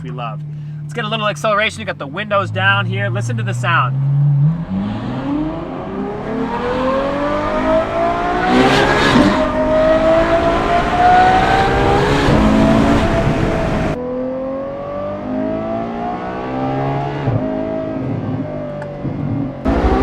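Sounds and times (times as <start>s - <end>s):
car engine accelerating hard: 1.6s - 20.0s.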